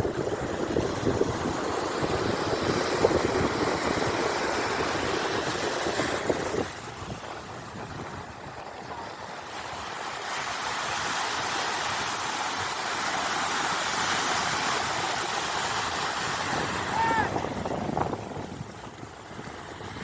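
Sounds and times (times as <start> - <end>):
sea waves rushing: 0.0 - 20.0.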